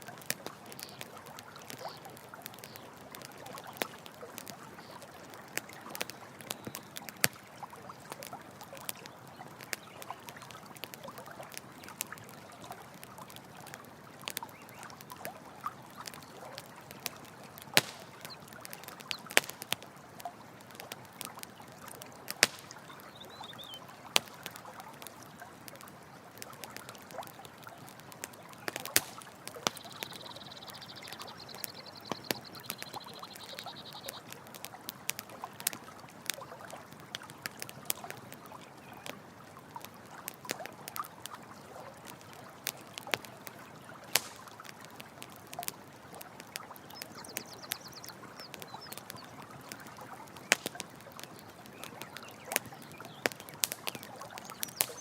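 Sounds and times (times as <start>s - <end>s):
campfire crackling and popping: 0.0s - 55.0s
running water: 0.0s - 55.0s.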